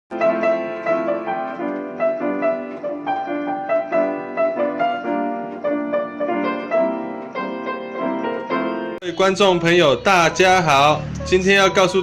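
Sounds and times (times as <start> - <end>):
piano melody: 0.1 - 12.0.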